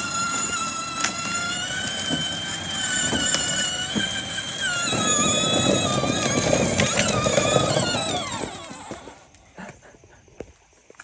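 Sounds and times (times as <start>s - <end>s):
toy tractor electric motors whining: 0.0s - 9.8s.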